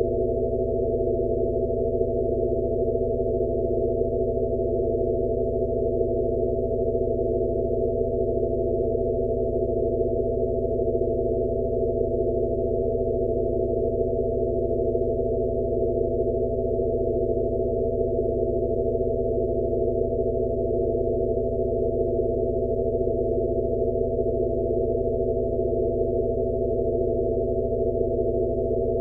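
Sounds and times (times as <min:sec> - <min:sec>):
steady sine tones: 0:05.7 - 0:29.0.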